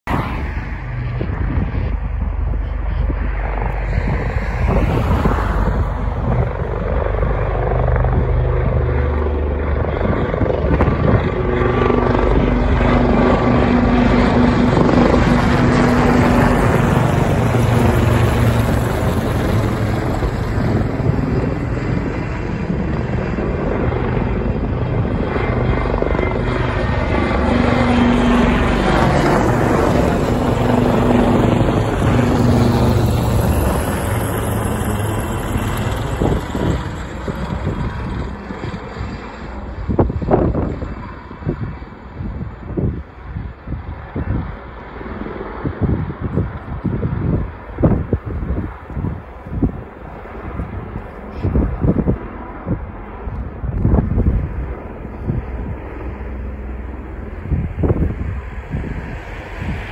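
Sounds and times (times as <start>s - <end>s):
helicopters flying past: 0.1s - 59.9s.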